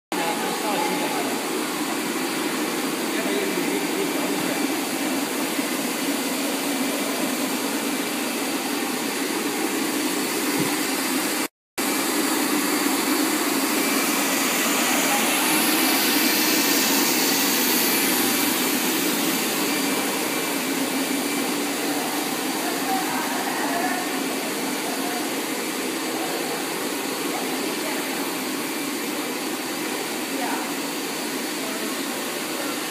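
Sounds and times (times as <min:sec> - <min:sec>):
machinery whirring and hissing: 0:00.2 - 0:32.9.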